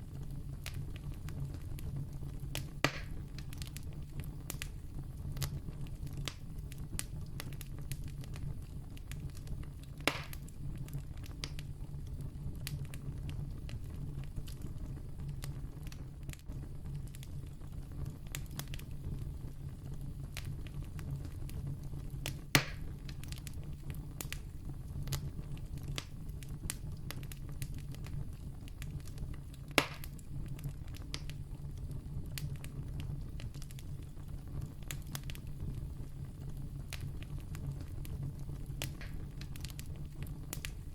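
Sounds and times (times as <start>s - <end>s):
campfire crackling: 0.0s - 40.9s
sharp fire pops: 0.2s - 19.4s, 20.0s - 40.9s.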